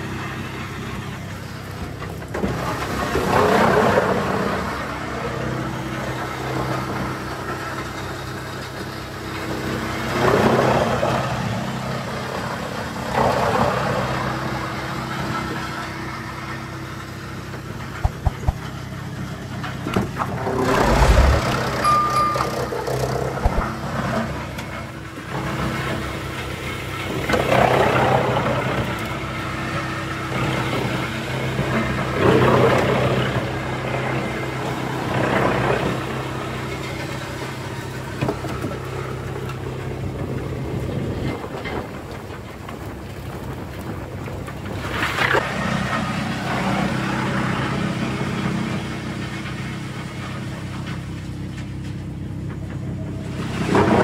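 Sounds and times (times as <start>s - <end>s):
wood chipper running: 0.0s - 54.0s.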